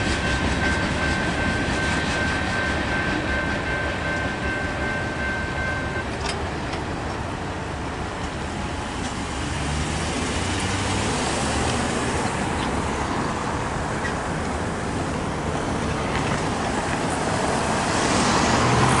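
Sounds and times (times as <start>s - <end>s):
vehicles driving over railroad tracks: 0.0s - 19.0s.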